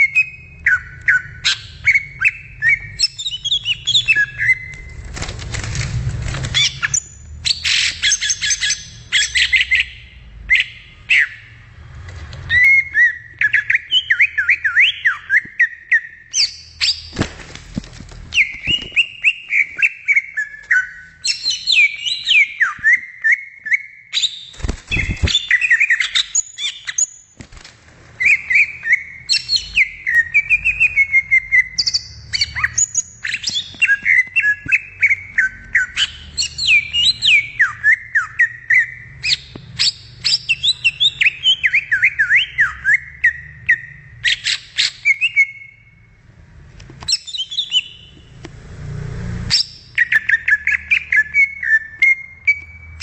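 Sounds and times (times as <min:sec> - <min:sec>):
bird singing whistled notes: 0:00.0 - 0:04.7, 0:06.6 - 0:11.6, 0:12.5 - 0:17.2, 0:18.3 - 0:27.3, 0:28.2 - 0:46.0, 0:47.1 - 0:48.2, 0:49.5 - 0:53.0.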